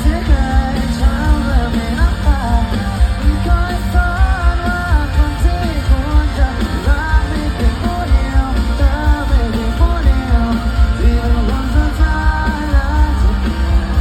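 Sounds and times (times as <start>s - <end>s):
live pop-rock band with singing: 0.0s - 14.0s.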